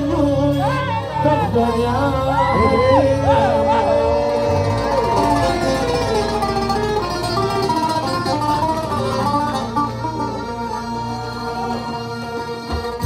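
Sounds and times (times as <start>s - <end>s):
oud plucked melody: 0.0s - 13.0s.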